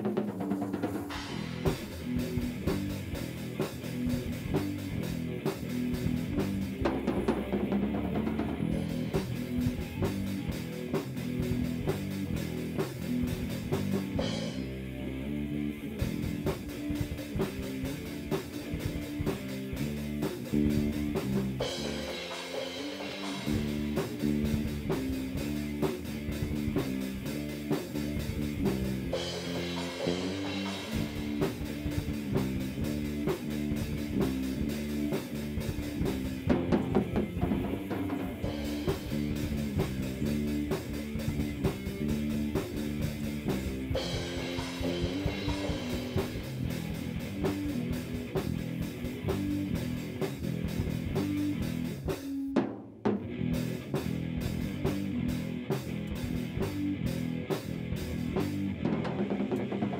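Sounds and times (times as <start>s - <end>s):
rock music with drums and guitar: 0.0s - 59.9s.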